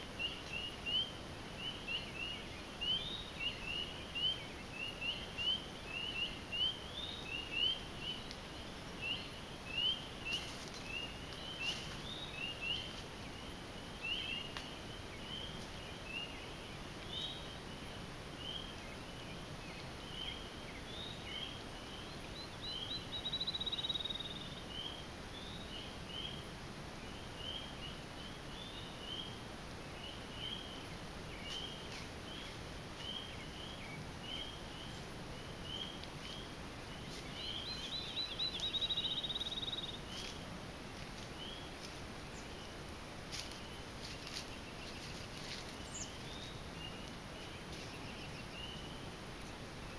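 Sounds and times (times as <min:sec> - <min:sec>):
spring peepers peeping: 0:00.0 - 0:40.4.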